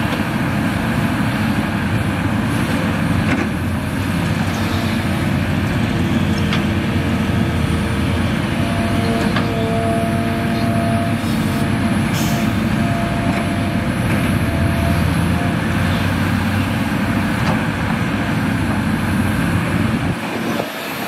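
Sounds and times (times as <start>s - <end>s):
heavy diesel rumble: 0.0s - 21.0s.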